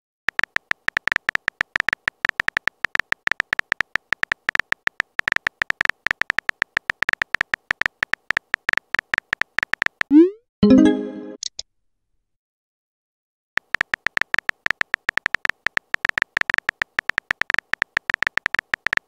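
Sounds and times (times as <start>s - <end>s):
phone keyboard typing beeps: 0.3s - 11.2s, 13.6s - 19.0s.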